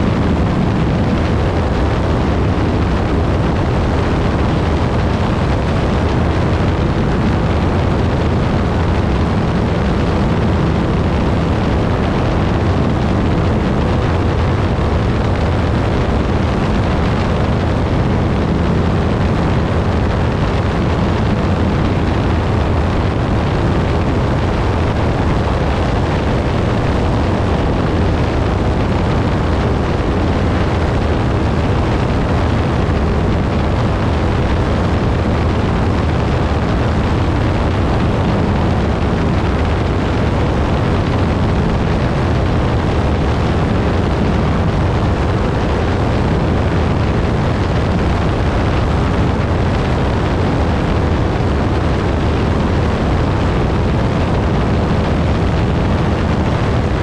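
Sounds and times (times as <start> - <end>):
propeller plane engine droning: 0.0 - 57.0
wind noise: 0.0 - 57.0.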